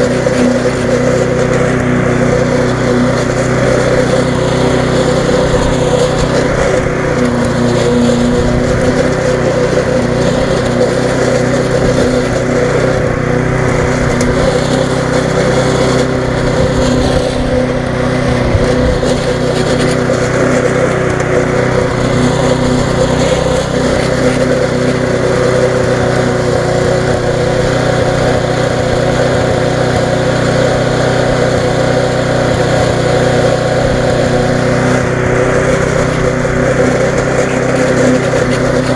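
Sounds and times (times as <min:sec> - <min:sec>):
lawnmower engine running: 0:00.0 - 0:38.9
mower blade cutting grass: 0:00.0 - 0:38.9.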